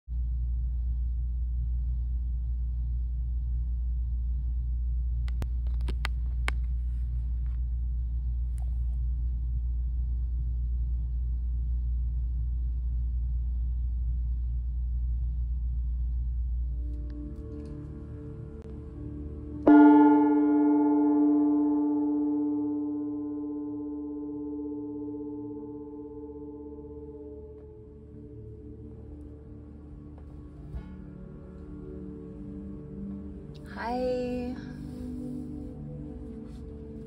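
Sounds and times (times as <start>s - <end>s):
steady low rumble: 0.1s - 20.2s, 20.8s - 37.0s.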